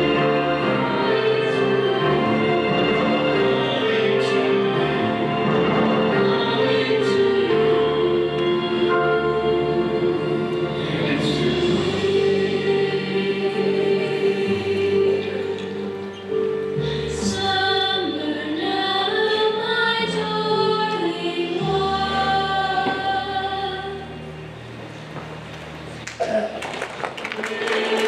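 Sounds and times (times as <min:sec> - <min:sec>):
choir singing slow song: 0:00.0 - 0:24.5, 0:27.4 - 0:28.0
instrumental accompaniment: 0:00.0 - 0:26.4.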